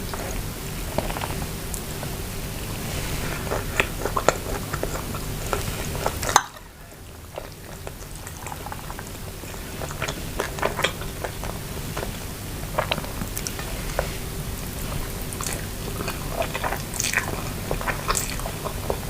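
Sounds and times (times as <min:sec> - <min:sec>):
person chewing and slurping: 0:00.0 - 0:19.0.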